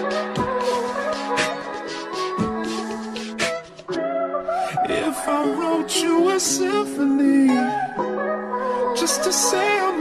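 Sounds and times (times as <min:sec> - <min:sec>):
love song music: 0:00.0 - 0:10.0.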